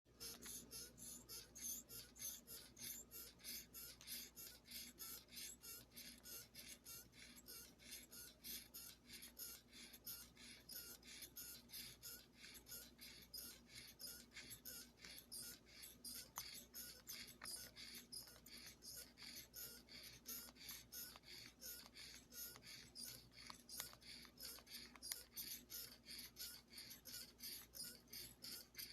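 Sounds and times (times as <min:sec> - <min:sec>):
little squeaks: 0:00.1 - 0:28.9.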